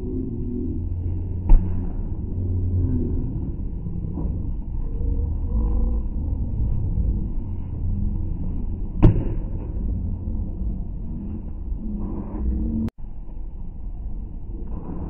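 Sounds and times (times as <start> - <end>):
low muffled rumble: 0.0 - 15.0.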